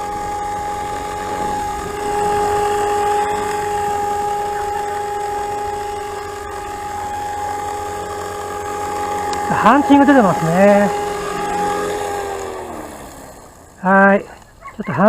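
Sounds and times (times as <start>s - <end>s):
model helicopter whine: 0.0s - 15.0s.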